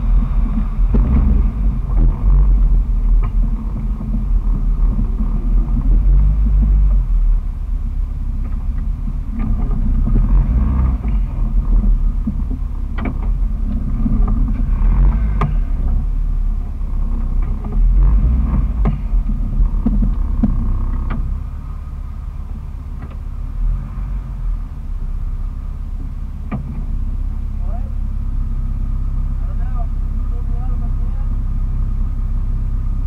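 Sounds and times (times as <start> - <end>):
loud engine rumble: 0.0 - 33.0.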